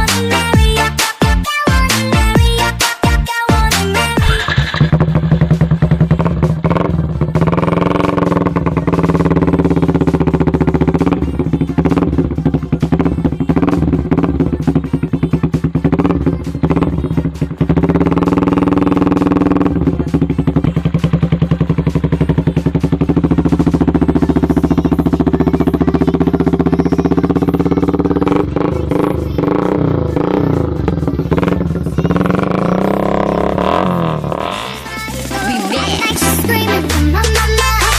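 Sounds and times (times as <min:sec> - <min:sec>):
motorcycle engine revving: 0:03.6 - 0:37.9.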